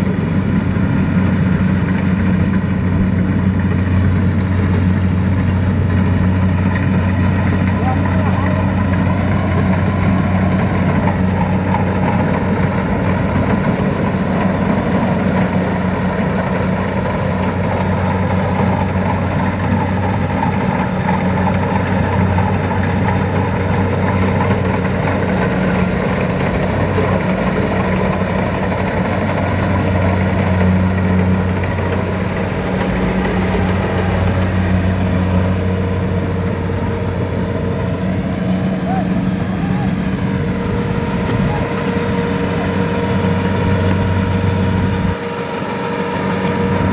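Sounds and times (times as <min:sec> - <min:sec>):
farm machine engine humming: 0:00.0 - 0:46.9.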